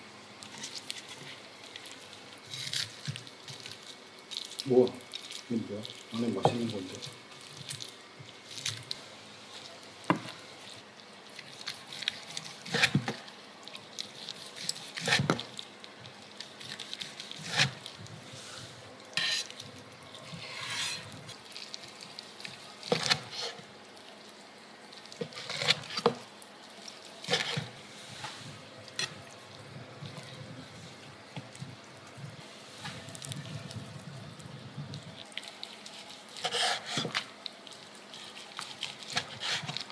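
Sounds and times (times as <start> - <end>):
wet squishing of meat: 0.4 - 39.9.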